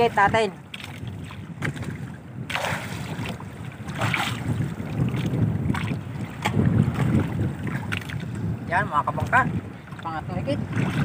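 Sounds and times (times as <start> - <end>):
water sloshing against boat hull: 0.0 - 11.0
wind buffeting microphone: 0.0 - 11.0.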